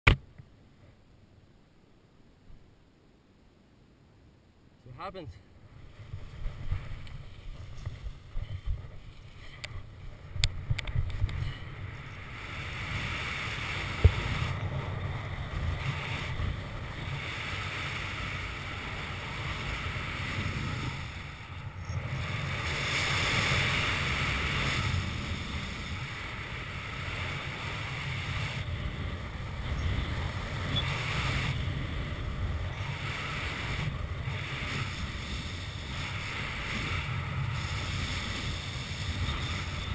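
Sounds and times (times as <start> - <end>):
wind rushing over microphone: 5.6 - 39.9.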